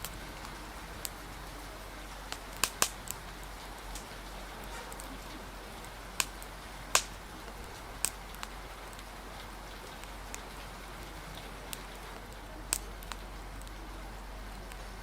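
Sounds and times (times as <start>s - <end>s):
fire crackling and popping: 0.0s - 15.0s
rain: 0.0s - 15.0s
wind: 0.0s - 15.0s.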